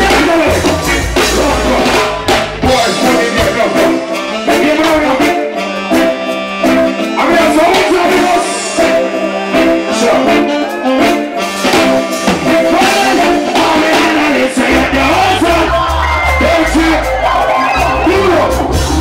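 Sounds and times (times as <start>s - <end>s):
deep bass line: 0.0s - 19.0s
reggae music with singer: 0.0s - 19.0s.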